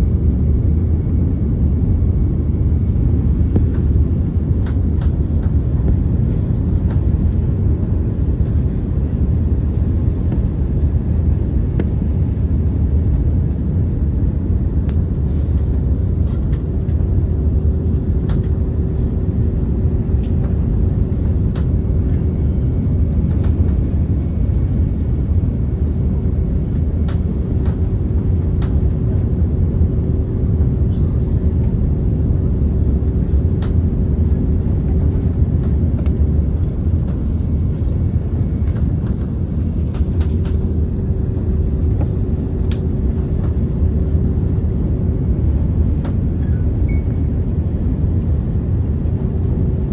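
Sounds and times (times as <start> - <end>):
deep rumble of jet engines: 0.0 - 49.9
faint steady hum: 0.0 - 49.9.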